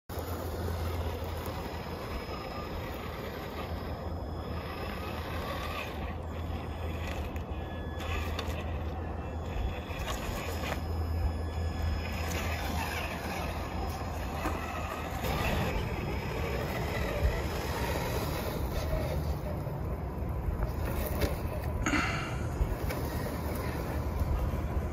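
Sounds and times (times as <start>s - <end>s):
faint high motor whine: 0.1s - 24.9s
toy car motor whirring: 0.1s - 24.9s.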